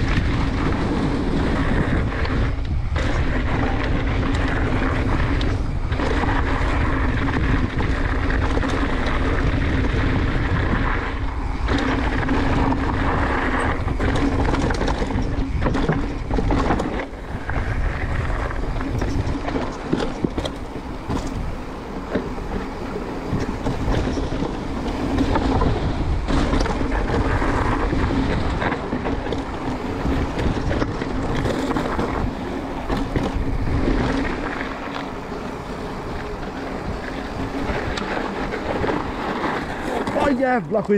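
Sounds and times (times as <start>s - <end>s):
bike knocking and rattling: 0.0s - 40.9s
bike tyre noise on trail: 0.0s - 40.9s
wind rushing over microphone: 0.0s - 40.9s.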